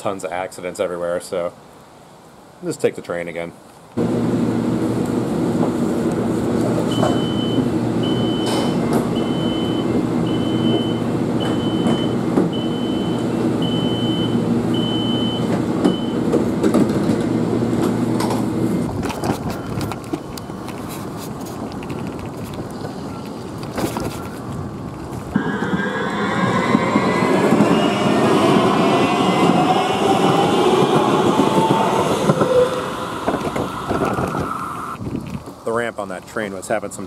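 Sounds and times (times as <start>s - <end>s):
light rail car hum: 4.0s - 35.6s.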